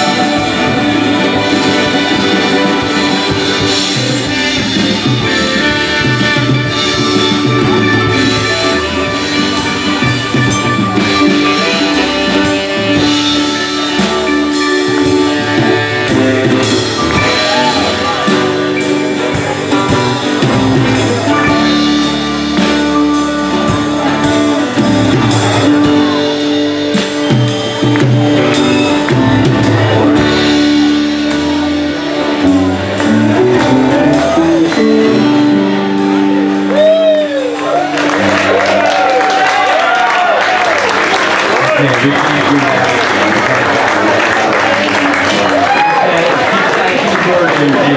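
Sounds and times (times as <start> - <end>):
saxophone held notes: 0.0 - 38.4
drum kit beats: 0.0 - 47.9
guitars: 0.0 - 47.9
keyboard held notes: 0.0 - 47.9.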